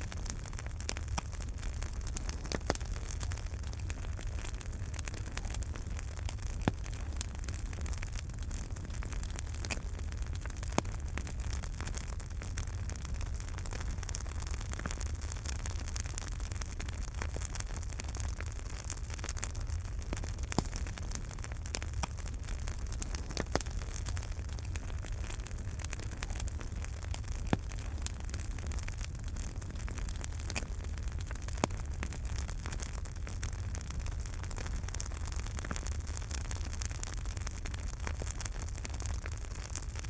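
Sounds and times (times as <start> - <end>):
fire crackling and popping: 0.0 - 40.0
wood fire rumbling: 0.0 - 40.0.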